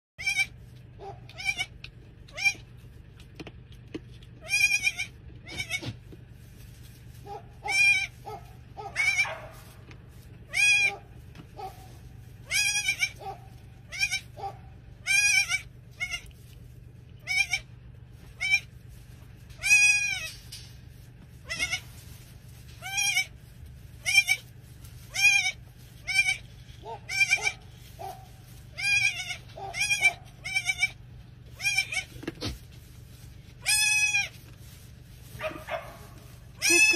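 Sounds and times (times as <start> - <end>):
goat kids bleating: 0.2 - 3.5, 4.1 - 6.4, 7.0 - 36.9
low steady hum: 0.2 - 36.9.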